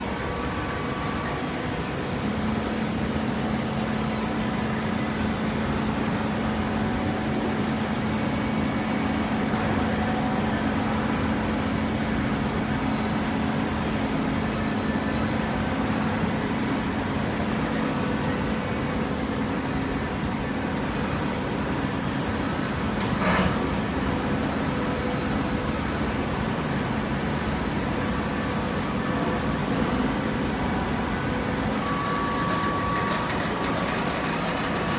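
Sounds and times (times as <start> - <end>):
hydraulic baler humming: 0.0 - 34.9.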